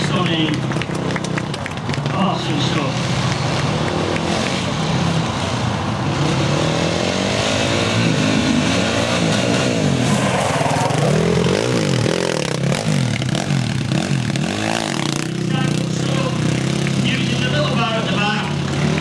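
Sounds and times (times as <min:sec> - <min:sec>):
quad bike engine revving: 0:00.0 - 0:19.0.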